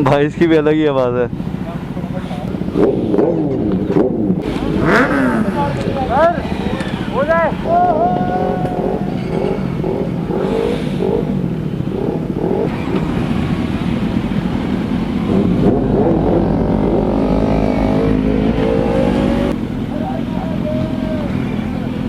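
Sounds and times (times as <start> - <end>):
motorcycle engine revving: 1.3 - 22.0.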